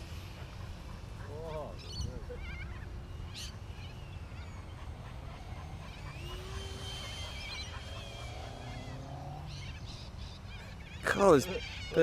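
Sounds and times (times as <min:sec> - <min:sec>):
birds squawking and warbling: 0:00.0 - 0:12.0.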